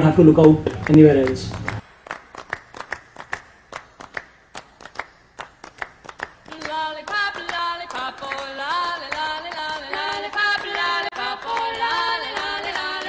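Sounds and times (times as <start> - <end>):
rhythmic hand claps: 0.0 - 13.0.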